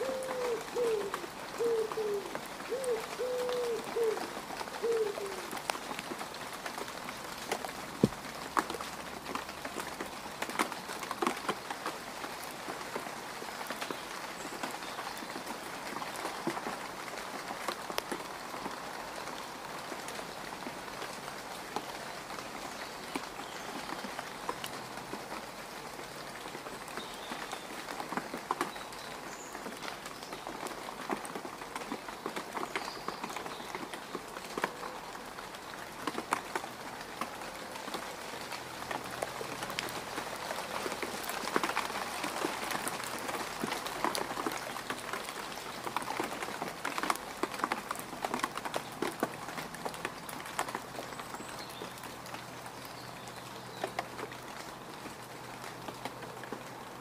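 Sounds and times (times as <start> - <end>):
rain pattering on mud: 0.0 - 57.0.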